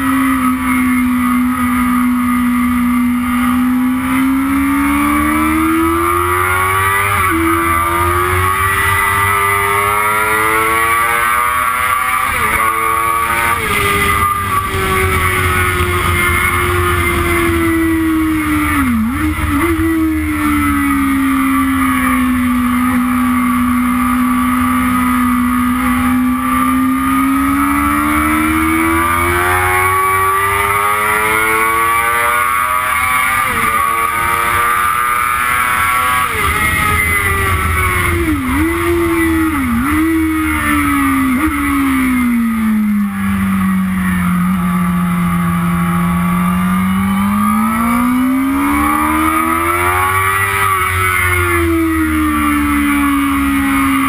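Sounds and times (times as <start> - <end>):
gear changes: 0.0 - 54.0
motorcycle engine revving: 0.0 - 54.0.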